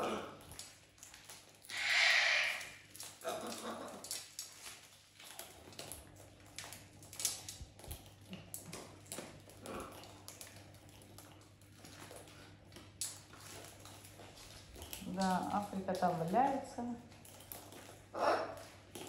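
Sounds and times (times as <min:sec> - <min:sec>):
pets eating with clicks and crunches: 0:00.0 - 0:19.0.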